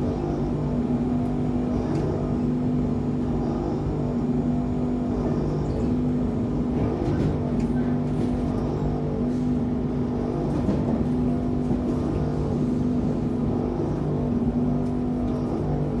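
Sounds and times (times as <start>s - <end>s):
electric train droning hum: 0.0s - 16.0s.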